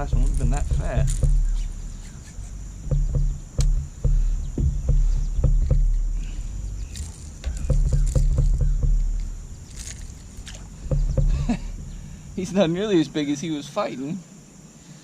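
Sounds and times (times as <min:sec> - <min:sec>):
knocks and clicks against boat: 0:00.0 - 0:13.2
low microphone rumble: 0:00.0 - 0:13.7
water splashing: 0:00.0 - 0:13.7.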